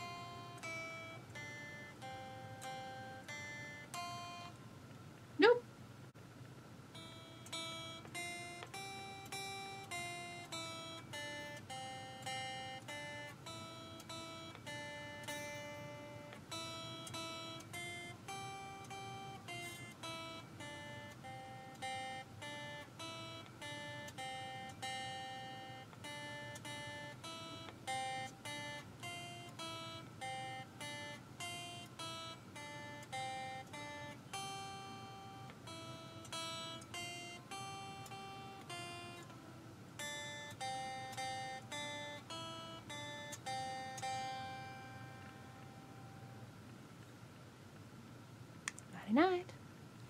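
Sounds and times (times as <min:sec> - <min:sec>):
electric guitar slow melody: 0:00.0 - 0:04.6, 0:06.9 - 0:46.6.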